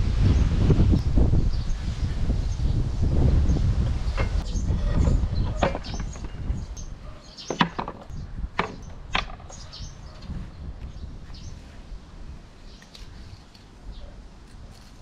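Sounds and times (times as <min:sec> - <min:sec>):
wind rumble on microphone: 0:00.0 - 0:07.2, 0:08.0 - 0:15.0.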